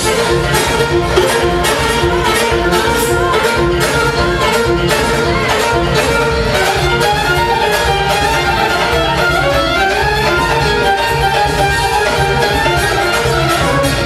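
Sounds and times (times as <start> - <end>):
amplified violin melody: 0.0 - 14.0
steady dance beat: 0.0 - 14.0.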